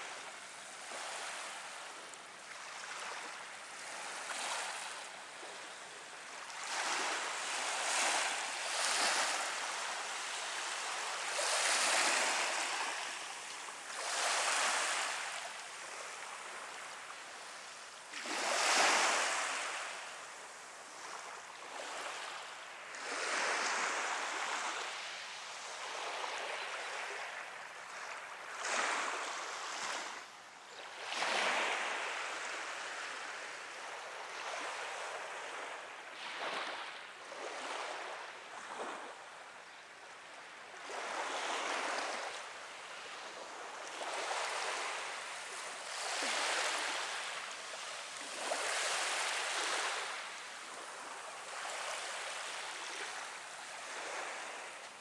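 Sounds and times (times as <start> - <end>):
small waves washing onto sand: 0.0 - 55.0.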